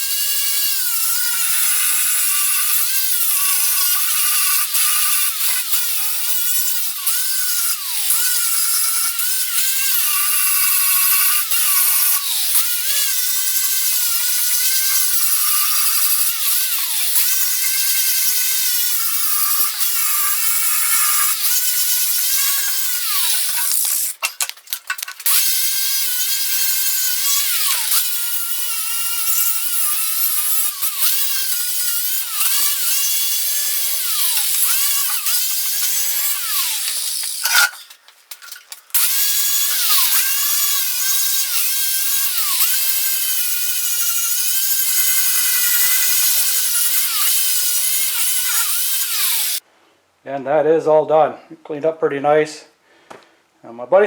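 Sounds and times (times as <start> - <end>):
power grinder on metal: 0.0 - 49.6.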